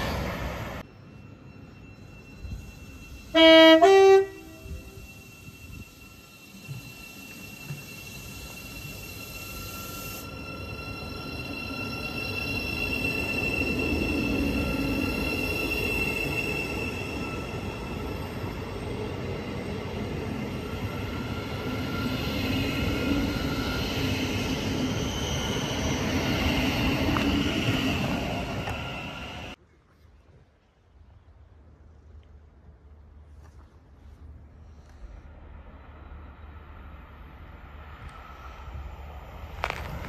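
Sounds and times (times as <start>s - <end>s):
train high whine: 0.0s - 29.6s, 33.9s - 40.0s
train wheels rumbling on rail: 1.8s - 29.6s, 34.7s - 40.0s.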